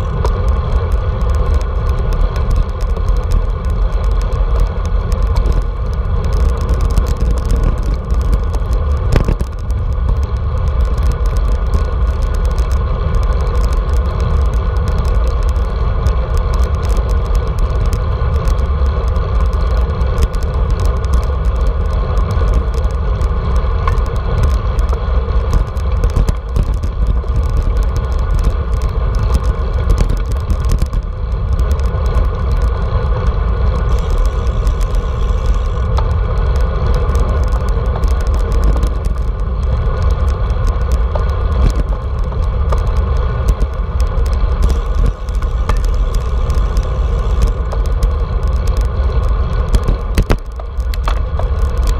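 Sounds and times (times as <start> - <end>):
road noise: 0.0 - 51.9
wind buffeting microphone: 0.0 - 51.9.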